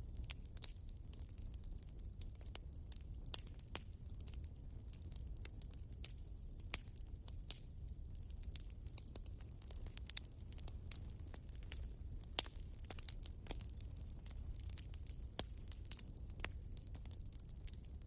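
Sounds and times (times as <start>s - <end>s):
logs crackling and popping: 0.0s - 18.0s
low rumble of flame: 0.0s - 18.0s.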